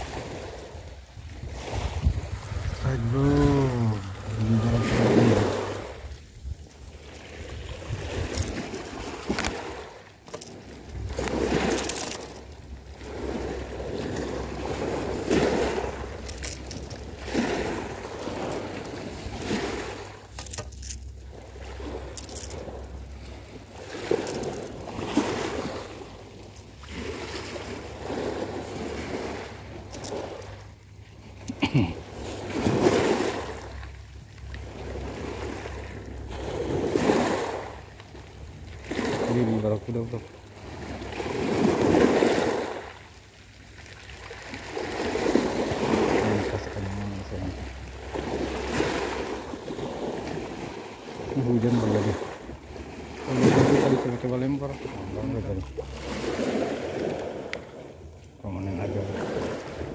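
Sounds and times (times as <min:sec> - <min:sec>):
waves washing on pebble beach: 0:00.0 - 0:30.7, 0:31.3 - 0:59.9.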